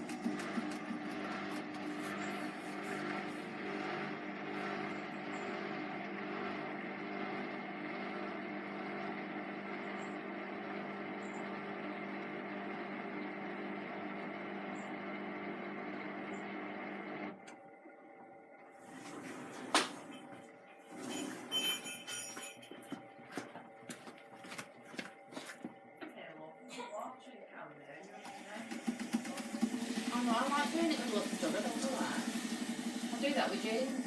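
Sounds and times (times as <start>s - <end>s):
washing machine motor hum: 0.0s - 34.0s.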